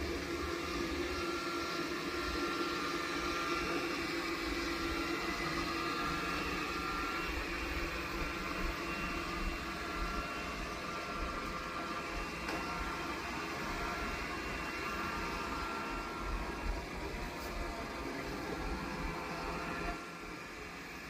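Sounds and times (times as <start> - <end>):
steady whining tones: 0.0 - 21.0.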